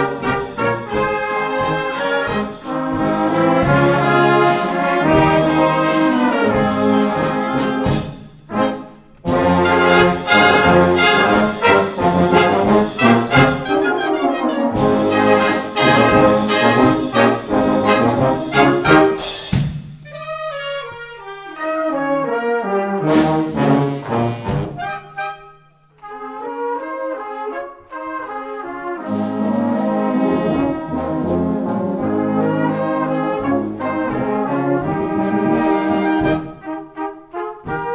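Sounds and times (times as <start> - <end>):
brass wind band playing: 0.0 - 37.9.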